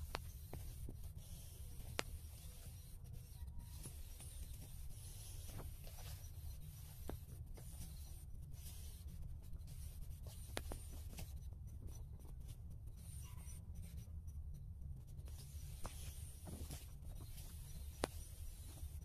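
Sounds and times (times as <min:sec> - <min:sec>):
rustling and scratching handling noise: 0:00.0 - 0:19.0.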